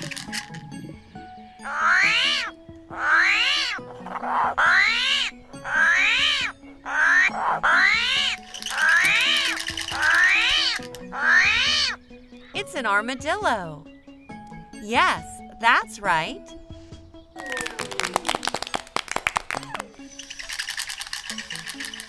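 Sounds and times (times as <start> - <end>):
light background music: 0.0 - 22.0.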